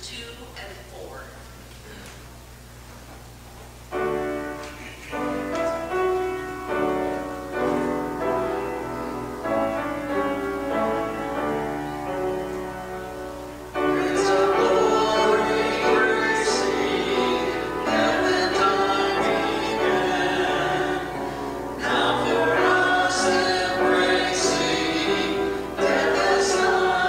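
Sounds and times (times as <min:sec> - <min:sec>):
grand piano playing chords: 0:03.7 - 0:27.0
congregation singing a hymn: 0:04.1 - 0:27.0.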